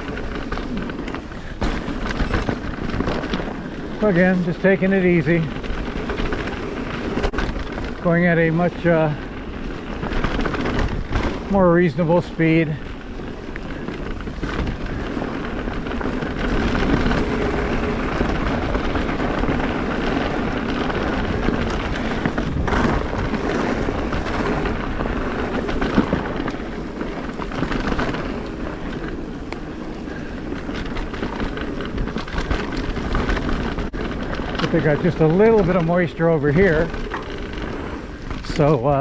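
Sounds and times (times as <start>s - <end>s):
bike knocks and rattles: 0.0s - 39.0s
tyres rolling on dirt trail: 0.0s - 39.0s.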